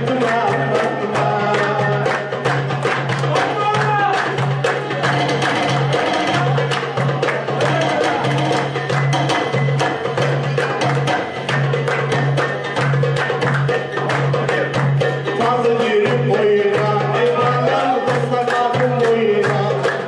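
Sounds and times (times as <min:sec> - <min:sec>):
oud playing: 0:00.0 - 0:19.8
fast drum strikes: 0:00.0 - 0:20.0.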